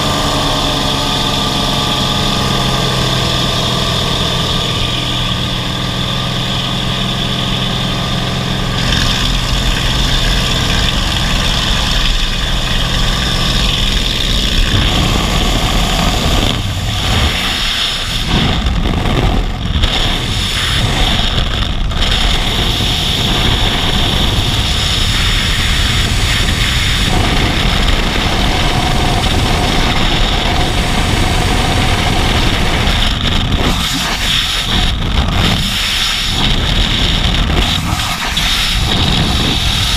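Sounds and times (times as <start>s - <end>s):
aircraft engine droning: 0.0s - 39.9s
rushing wind on microphone: 0.0s - 39.9s.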